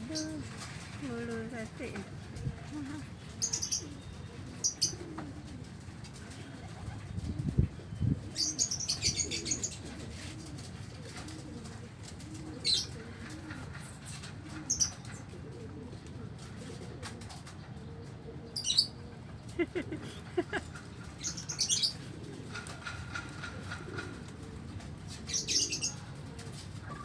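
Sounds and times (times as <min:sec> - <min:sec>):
pigeons cooing: 0:00.0 - 0:27.0
wings flapping: 0:00.1 - 0:17.6, 0:19.5 - 0:27.0.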